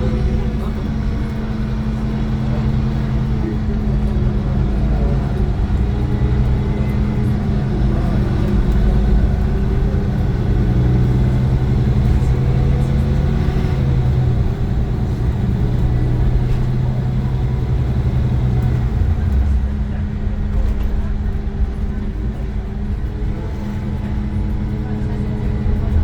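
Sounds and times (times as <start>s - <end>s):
bus diesel engine humming: 0.0s - 26.0s.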